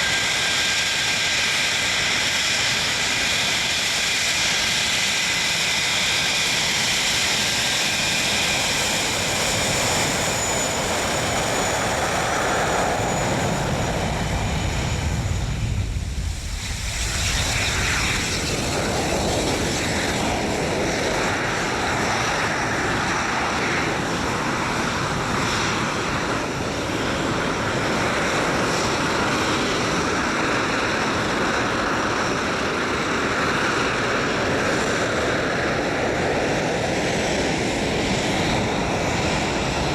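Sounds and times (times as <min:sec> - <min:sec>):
jet engine noise: 0:00.0 - 0:39.9.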